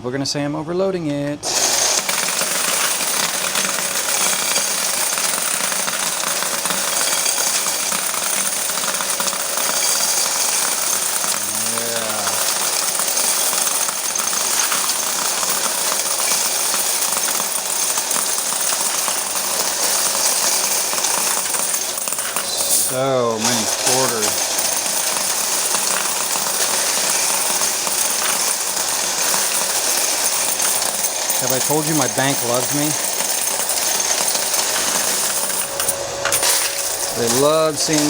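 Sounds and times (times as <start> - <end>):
coins clattering through counting machine: 1.4 - 38.0.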